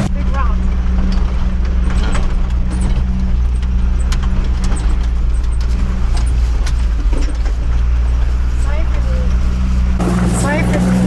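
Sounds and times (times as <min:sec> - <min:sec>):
engine droning: 0:00.0 - 0:11.0
vehicle rattling clicks and knocks: 0:00.0 - 0:11.0.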